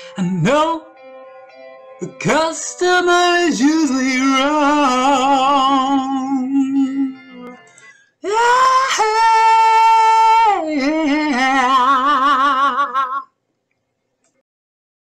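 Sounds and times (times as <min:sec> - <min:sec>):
person singing jingle: 0:00.0 - 0:01.1, 0:01.9 - 0:13.3.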